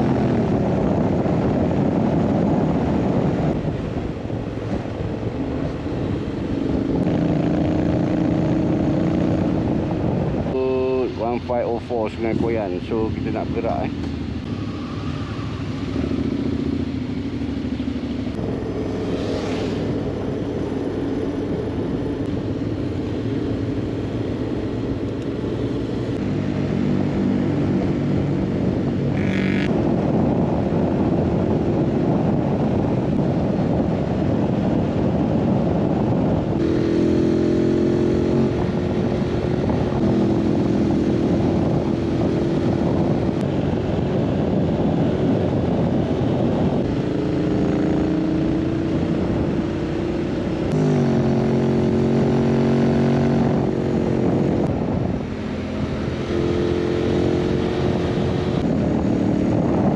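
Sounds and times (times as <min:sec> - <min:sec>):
motorcycle engine: 0:00.0 - 0:11.5, 0:12.1 - 0:59.9
wind rush on microphone: 0:00.0 - 0:59.9.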